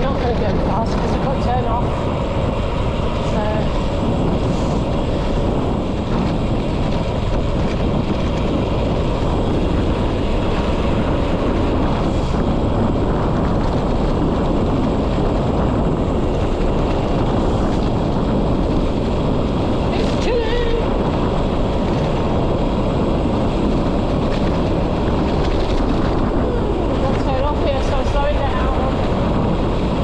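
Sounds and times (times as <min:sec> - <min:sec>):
tyres rumbling on tarmac: 0:00.0 - 0:30.0
wind rushing over microphone: 0:00.0 - 0:30.0.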